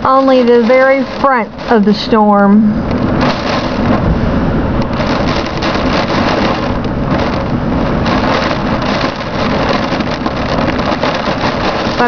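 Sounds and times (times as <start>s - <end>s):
driving rain: 0.0s - 12.0s
storm wind: 0.0s - 12.0s.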